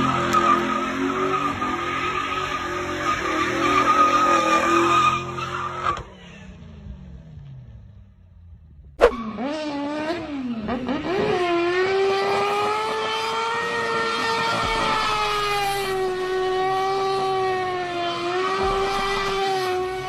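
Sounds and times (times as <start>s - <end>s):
small car engine revving hard: 0.0s - 7.3s, 9.0s - 20.0s.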